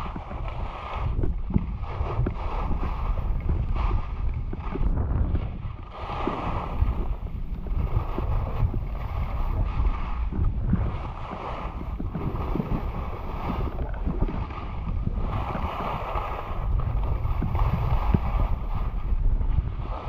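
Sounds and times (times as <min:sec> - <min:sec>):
skis sliding on snow: 0:00.0 - 0:20.0
wind rumbling on microphone: 0:00.0 - 0:20.0.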